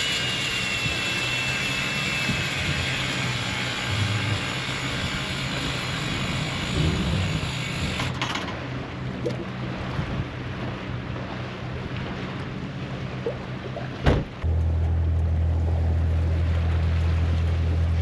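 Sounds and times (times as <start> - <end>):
low even hum: 0.0 - 18.0
wind and water rushing: 0.0 - 18.0.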